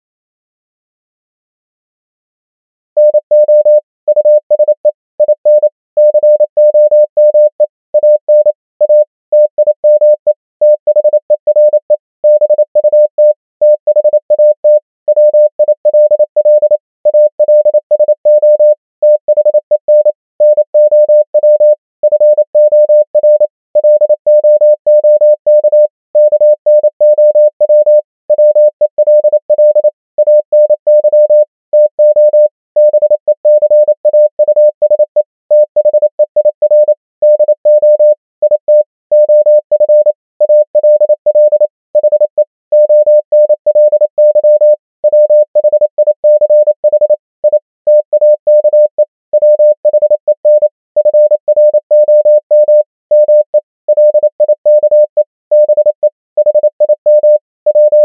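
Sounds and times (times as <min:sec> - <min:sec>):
morse code beeps: 0:03.0 - 0:58.0.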